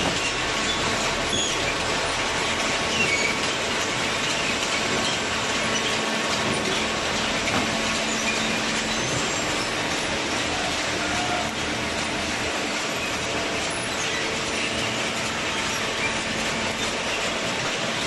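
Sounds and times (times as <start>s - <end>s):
faint squeaks and clatter: 0.0s - 1.9s, 2.5s - 12.2s, 12.8s - 18.0s.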